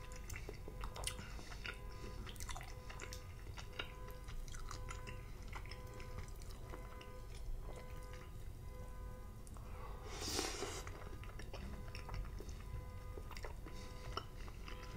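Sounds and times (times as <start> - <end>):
wet chewing clicks: 0.0 - 8.5, 10.4 - 14.9.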